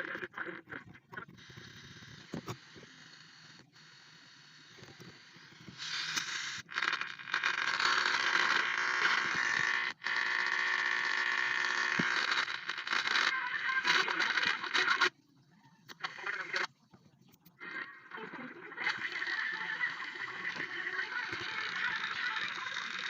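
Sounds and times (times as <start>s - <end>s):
radio static and crackle: 0.0s - 23.0s.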